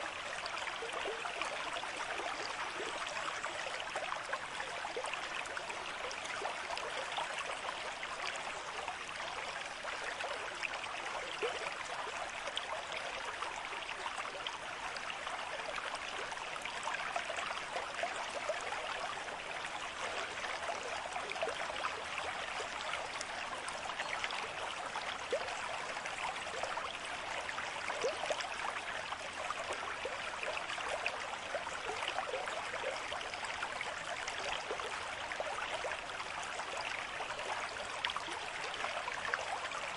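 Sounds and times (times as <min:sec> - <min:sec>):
small stream flowing: 0:00.0 - 0:39.9.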